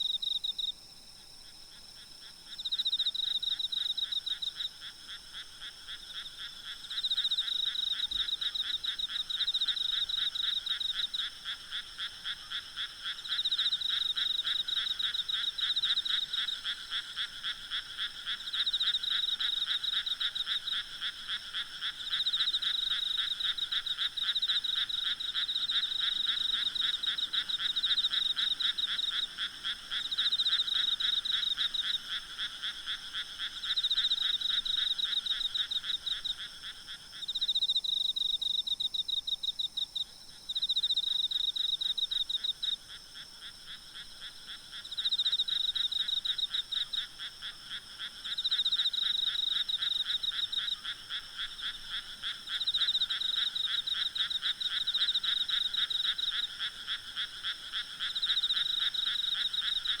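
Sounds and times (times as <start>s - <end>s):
frogs croaking: 0.0s - 0.7s, 1.5s - 60.0s.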